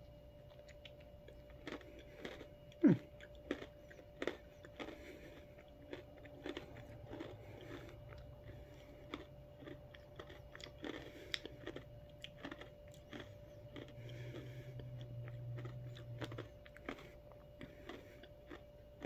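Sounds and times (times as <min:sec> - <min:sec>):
chewing and crunching: 0:00.0 - 0:19.0.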